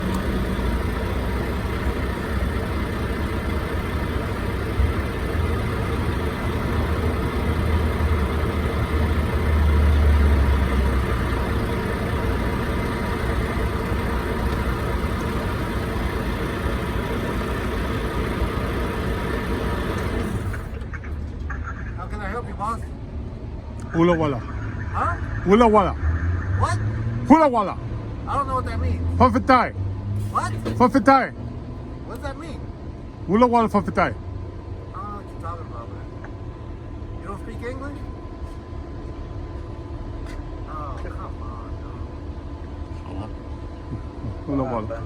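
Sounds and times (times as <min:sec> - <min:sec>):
vehicle engine idling: 0:00.0 - 0:29.6, 0:30.2 - 0:45.0.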